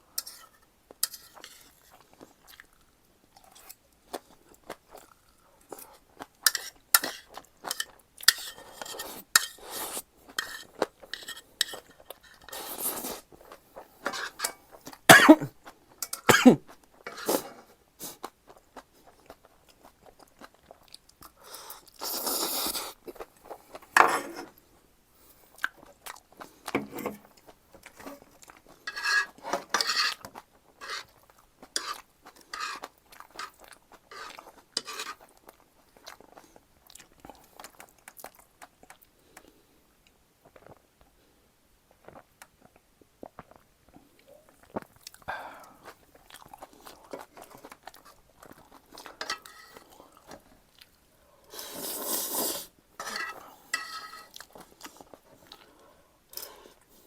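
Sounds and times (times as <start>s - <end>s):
chewing food: 0.9s - 24.0s, 25.3s - 41.1s, 41.9s - 51.1s, 53.0s - 57.0s.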